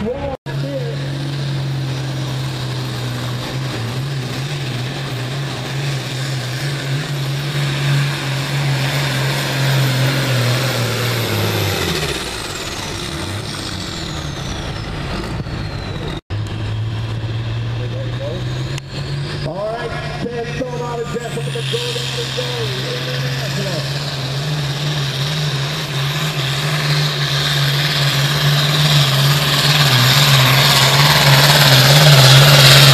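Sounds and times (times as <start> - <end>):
tractor diesel engine running hard: 0.0 - 32.9.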